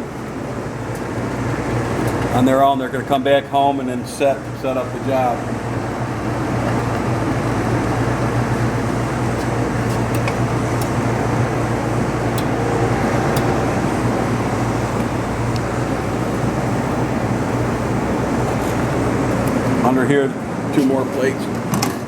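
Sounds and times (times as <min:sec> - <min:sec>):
machine hum and whir: 0:00.0 - 0:22.0.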